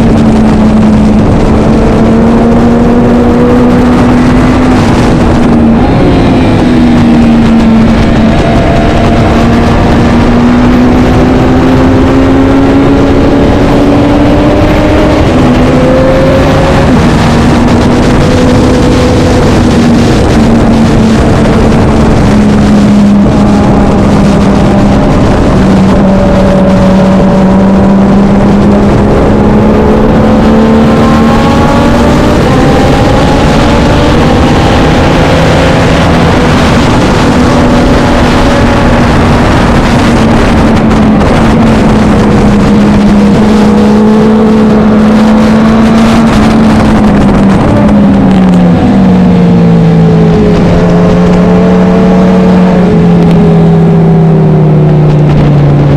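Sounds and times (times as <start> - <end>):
racing motorcycle engine: 0.0 - 55.9.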